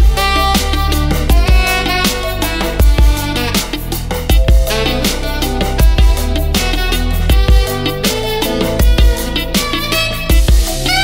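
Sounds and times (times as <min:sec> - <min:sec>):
heavy low beat: 0:00.0 - 0:11.0
sustained melodic notes: 0:00.0 - 0:11.0.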